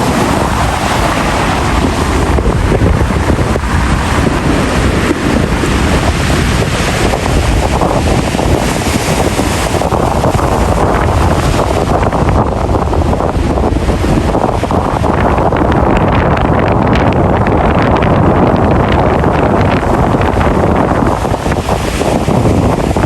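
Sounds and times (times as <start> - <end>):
ocean waves and surf: 0.0 - 23.0
wind buffeting microphone: 0.0 - 23.0.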